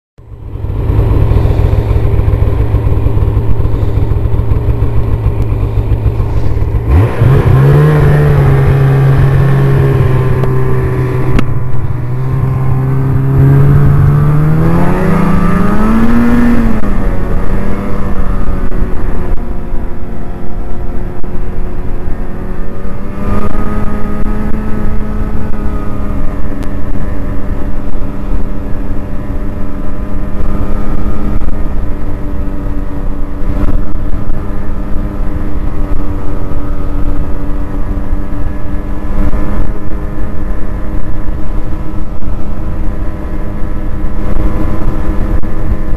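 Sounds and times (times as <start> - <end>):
snowmobile engine and track: 0.2 - 45.9.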